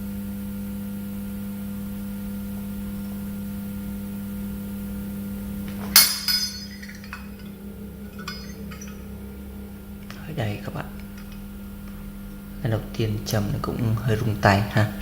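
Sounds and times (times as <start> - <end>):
low steady hum: 1.6 - 15.0.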